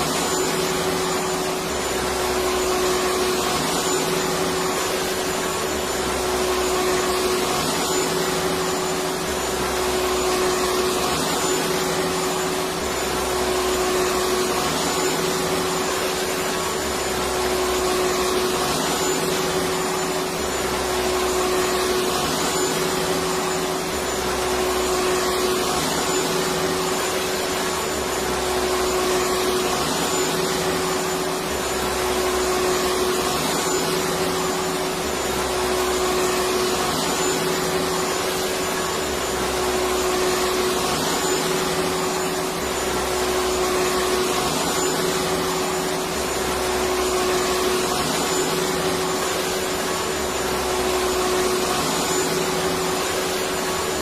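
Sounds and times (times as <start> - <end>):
vacuum cleaner hiss and hum: 0.0 - 54.0.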